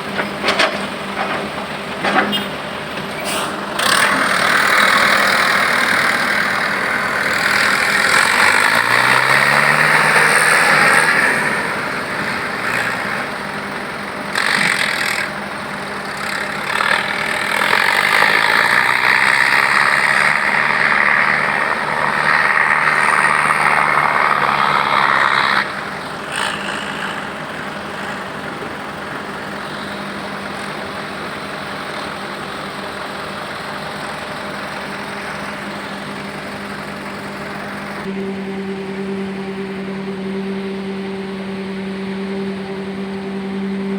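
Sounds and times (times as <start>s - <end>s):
heavy vehicle engine running: 0.0s - 43.9s.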